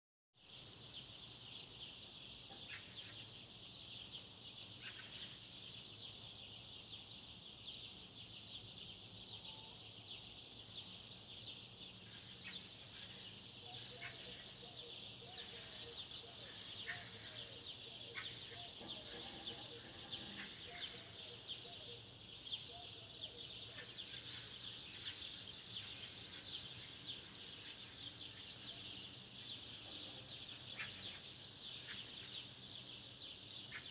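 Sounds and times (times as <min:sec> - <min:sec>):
small birds chirping: 0:00.4 - 0:33.9
fainter lower bird calls: 0:02.4 - 0:33.9.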